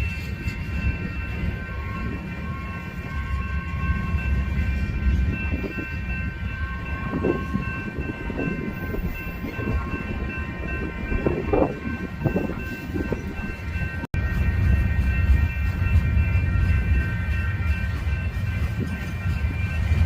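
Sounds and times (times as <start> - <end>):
freight train rumbling: 0.0 - 20.0
steady chord of high tones: 0.0 - 20.0.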